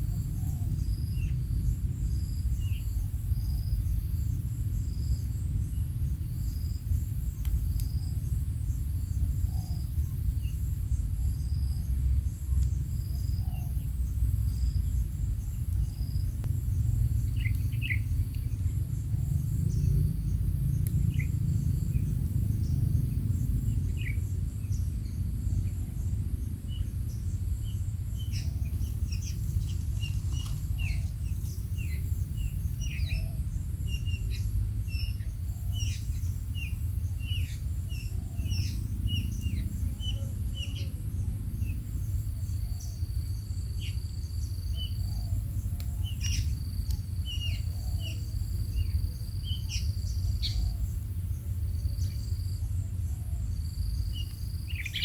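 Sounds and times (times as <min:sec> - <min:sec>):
insects chirping in a pulse: 0:00.0 - 0:55.0
steady low rumble: 0:00.0 - 0:55.0.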